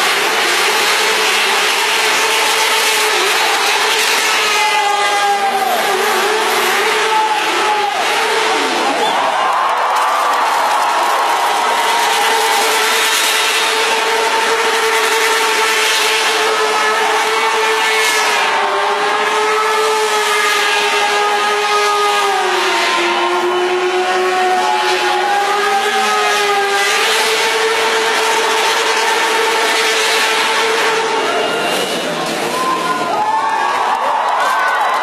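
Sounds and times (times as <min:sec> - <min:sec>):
motorcycle engine revving: 0:00.0 - 0:09.2, 0:10.5 - 0:32.6.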